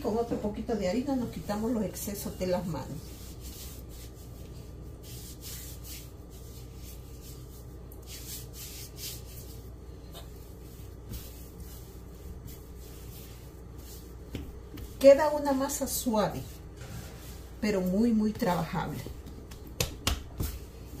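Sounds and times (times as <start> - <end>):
hands kneading dough: 0.0 - 21.0.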